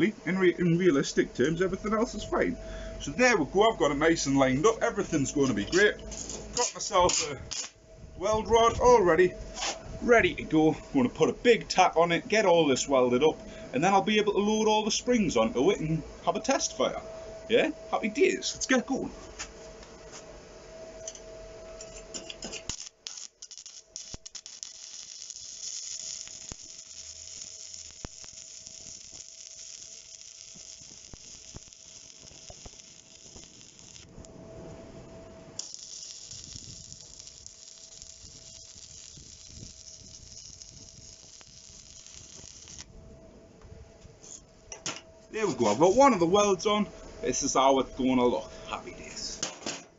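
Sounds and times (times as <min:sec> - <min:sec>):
welding arc crackling sizzle: 0:00.0 - 0:17.0, 0:21.0 - 0:42.9, 0:45.3 - 0:49.4
faint steady hum: 0:00.0 - 0:49.9.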